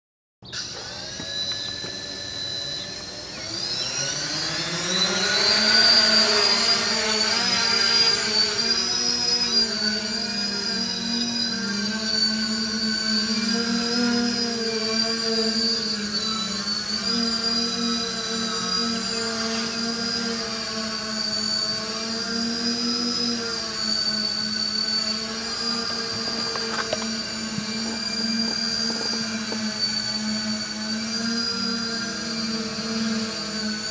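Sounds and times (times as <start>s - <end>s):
drone motors whining: 0.5s - 33.9s.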